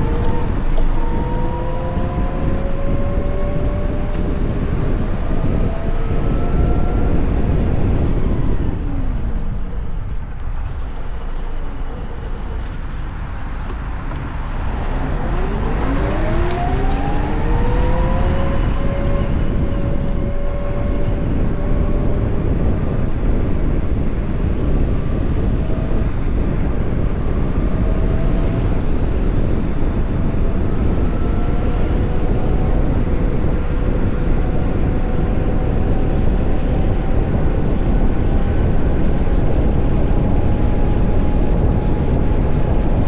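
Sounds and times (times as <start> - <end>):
electric motorcycle motor whine: 0.0 - 13.0, 14.6 - 43.0
heavy wind: 0.0 - 43.0
road rumble: 0.0 - 43.0.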